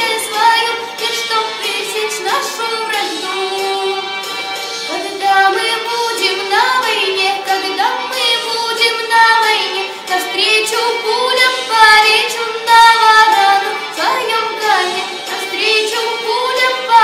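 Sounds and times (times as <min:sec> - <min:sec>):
woman singing unaccompanied: 0:00.0 - 0:04.2, 0:04.9 - 0:17.0.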